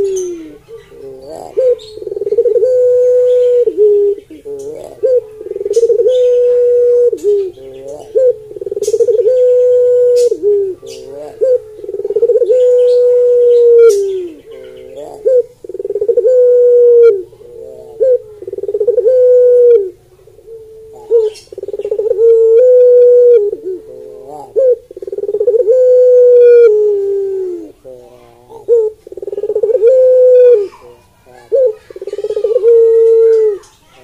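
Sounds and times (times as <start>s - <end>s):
dove cooing: 0.0s - 34.0s.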